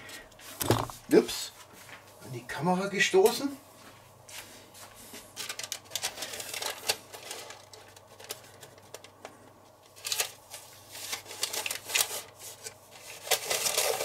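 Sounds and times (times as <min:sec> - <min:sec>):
baking paper rustling and crinkling: 0:00.0 - 0:14.0.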